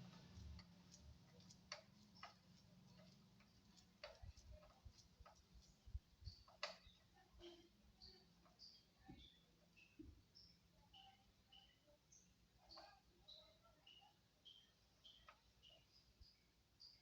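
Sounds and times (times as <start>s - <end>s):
faint irregular clicks: 0.0s - 17.0s.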